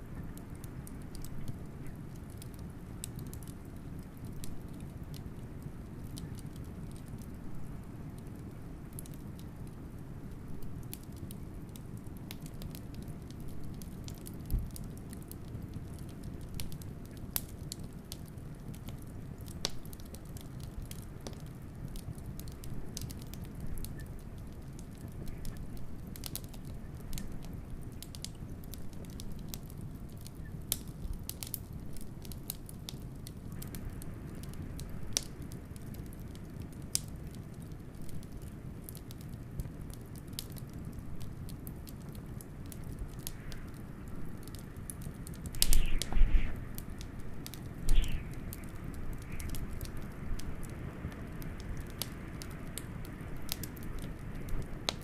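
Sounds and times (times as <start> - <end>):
low rumble of blizzard wind: 0.0 - 55.0
wood fire crackling: 0.0 - 55.0.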